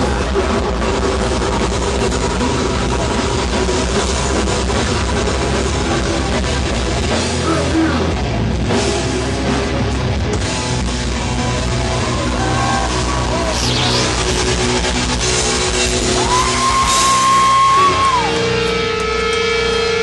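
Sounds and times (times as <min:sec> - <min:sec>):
death metal band playing live: 0:00.0 - 0:20.0
distorted guitars: 0:00.0 - 0:20.0
drum kit: 0:00.0 - 0:20.0.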